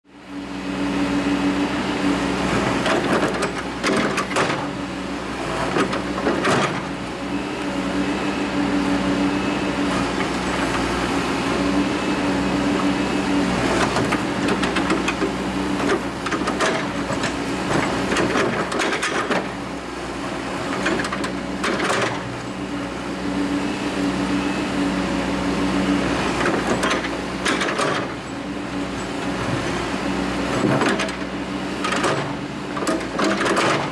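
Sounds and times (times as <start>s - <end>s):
backhoe engine running: 0.1s - 33.9s.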